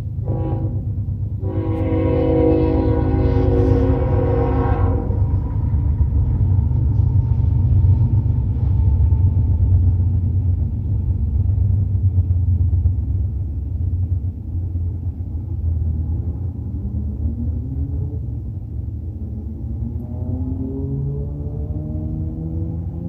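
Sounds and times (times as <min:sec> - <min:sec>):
freight train rumbling: 0:00.0 - 0:23.0.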